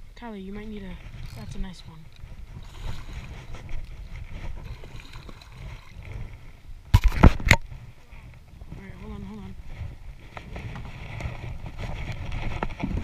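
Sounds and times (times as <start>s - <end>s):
faint water movement: 0.0s - 11.8s
wind rumbling on microphone: 0.0s - 13.0s.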